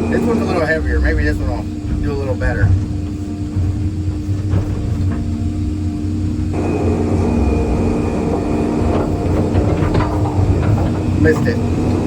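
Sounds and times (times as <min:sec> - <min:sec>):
excavator diesel engine: 0:00.0 - 0:12.0
thin high whine: 0:00.0 - 0:12.0.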